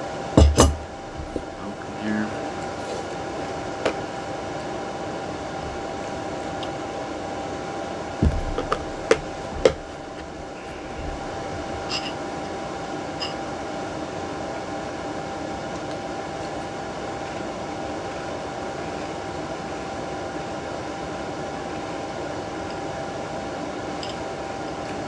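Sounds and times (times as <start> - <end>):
fan-like hum: 0.0 - 25.0.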